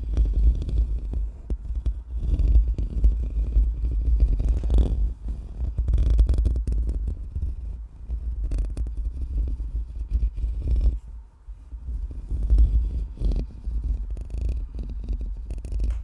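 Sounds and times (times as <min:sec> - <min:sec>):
scratching on a microphone: 0:00.0 - 0:16.0.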